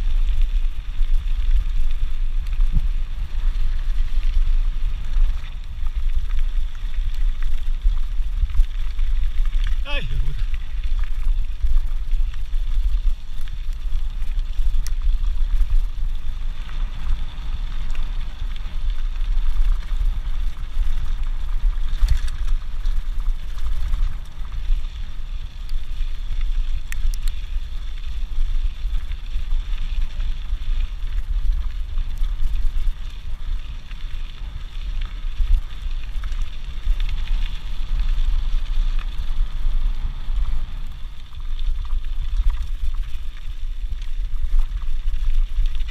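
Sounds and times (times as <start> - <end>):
tyres rolling on gravel: 0.0 - 45.9
wind rumble on microphone: 0.0 - 45.9.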